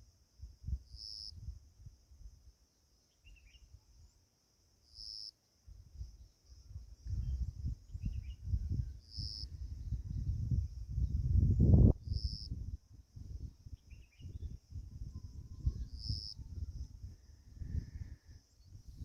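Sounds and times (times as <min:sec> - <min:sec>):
insect-like drone: 0:00.4 - 0:19.0.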